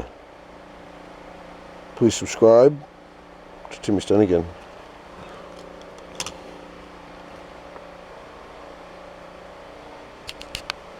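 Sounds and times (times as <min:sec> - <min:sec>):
mechanical hum with tones: 0:00.0 - 0:10.9.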